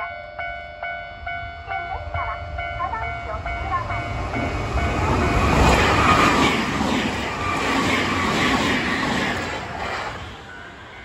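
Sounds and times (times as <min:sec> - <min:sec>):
train passing at speed: 0:00.4 - 0:11.0.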